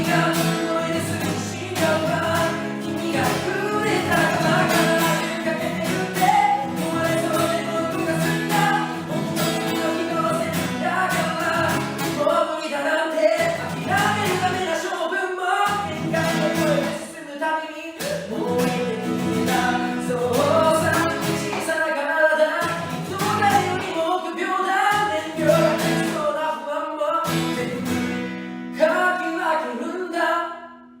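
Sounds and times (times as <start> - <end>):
acoustic guitar strumming: 0.0 - 15.0, 15.6 - 17.2, 18.0 - 31.0
man singing: 0.0 - 30.8.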